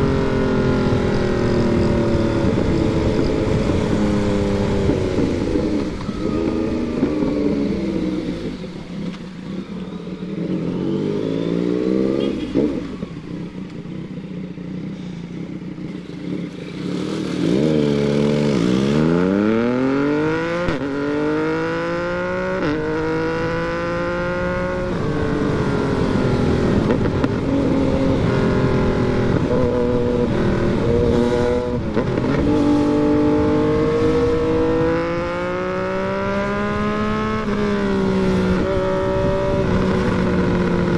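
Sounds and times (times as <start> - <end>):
motorcycle engine accelerating through gears: 0.0 - 40.9.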